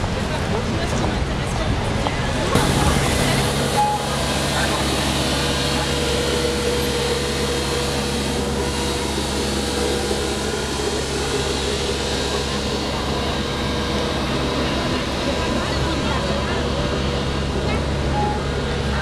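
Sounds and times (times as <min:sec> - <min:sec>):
street sweeper engine droning: 0:00.0 - 0:19.0.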